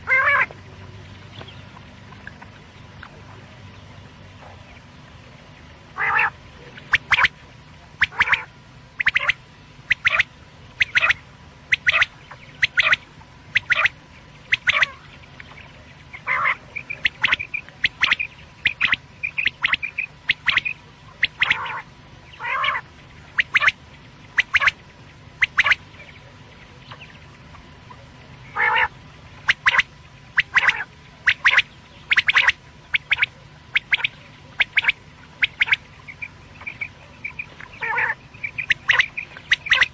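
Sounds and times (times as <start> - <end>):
quail calling in sharp notes: 0.0 - 0.5, 6.0 - 7.4, 8.0 - 27.2, 27.9 - 39.9
faint steady hum: 0.0 - 39.9.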